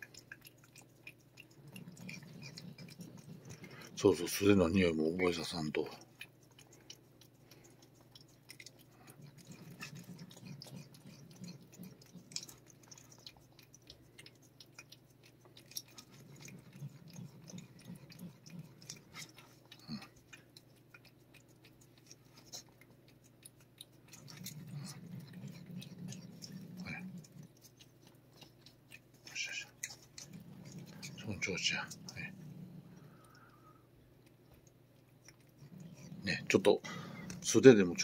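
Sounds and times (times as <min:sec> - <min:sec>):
cat licking: 0:00.0 - 0:38.0.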